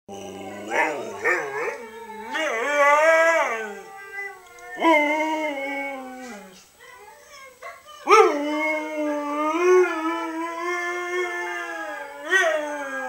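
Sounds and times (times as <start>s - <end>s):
dog howling and yowling: 0.1s - 6.6s, 8.0s - 13.0s.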